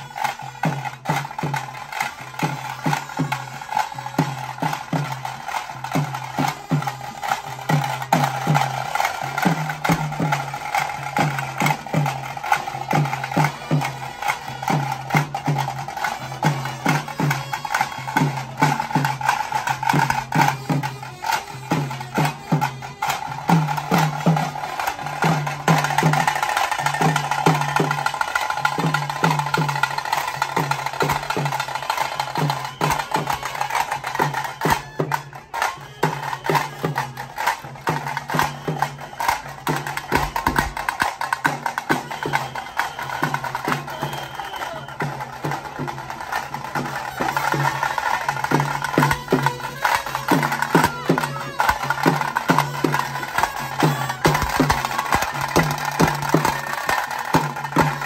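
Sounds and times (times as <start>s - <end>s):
drum band playing fast rhythm: 0.0s - 58.0s.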